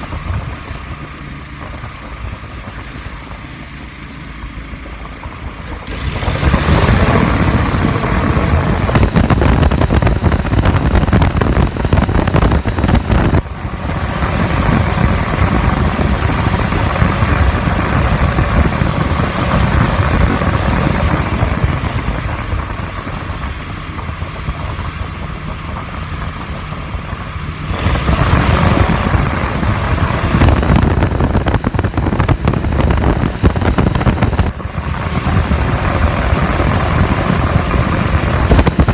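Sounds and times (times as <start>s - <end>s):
motor running loudly: 0.0s - 38.9s.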